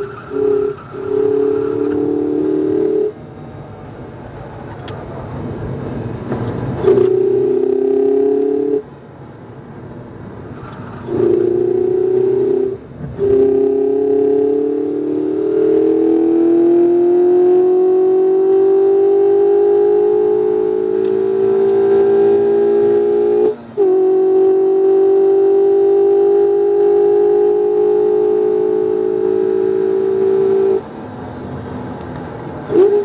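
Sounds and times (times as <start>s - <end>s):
car engine accelerating: 0.0s - 9.0s, 10.0s - 33.0s.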